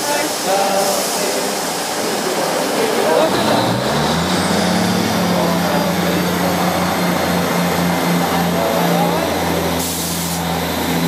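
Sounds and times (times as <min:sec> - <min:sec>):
diesel train engine droning: 0:00.0 - 0:11.0.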